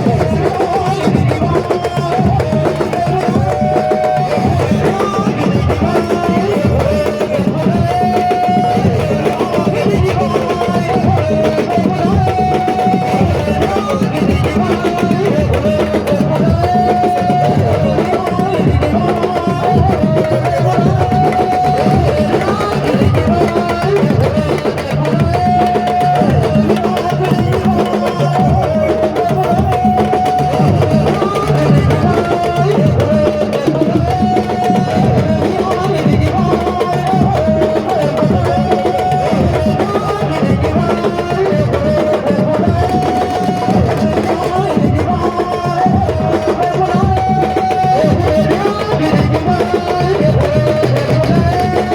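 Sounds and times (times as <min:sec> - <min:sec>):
hand drums playing: 0:00.0 - 0:51.9.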